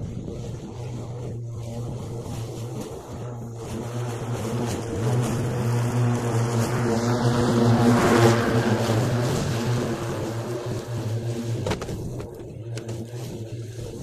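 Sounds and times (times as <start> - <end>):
electric lawnmower humming: 0.0 - 14.0.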